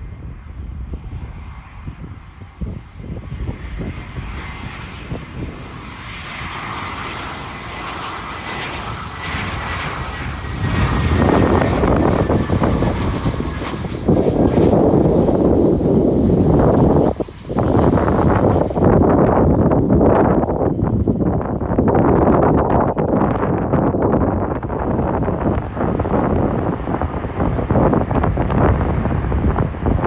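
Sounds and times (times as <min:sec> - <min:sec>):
jet engines whining and roaring: 0:00.0 - 0:30.0.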